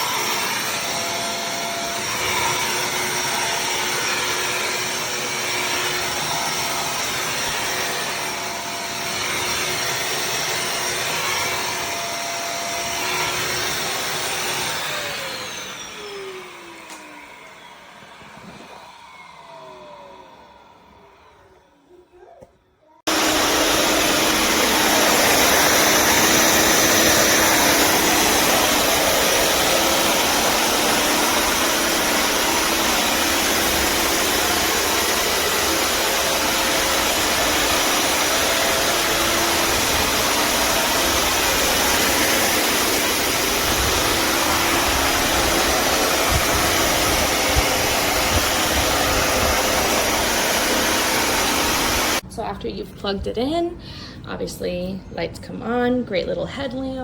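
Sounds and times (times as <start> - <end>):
wet-dry vacuum running: 0.0 - 21.9, 23.1 - 52.4.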